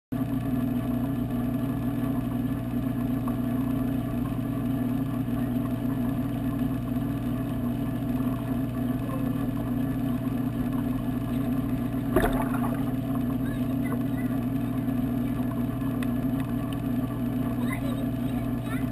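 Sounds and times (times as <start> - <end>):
aquarium pump hum underwater: 0.2 - 18.9.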